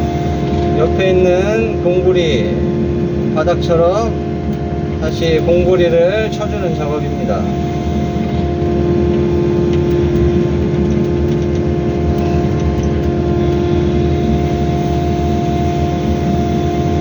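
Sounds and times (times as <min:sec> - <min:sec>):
diesel engine whining and rumbling: 0:00.0 - 0:17.0.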